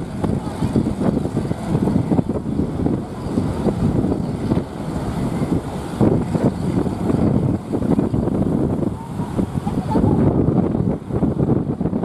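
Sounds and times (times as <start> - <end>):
boat engine running: 0.0 - 12.0
waves breaking: 0.0 - 12.0
wind buffeting microphone: 0.0 - 12.0.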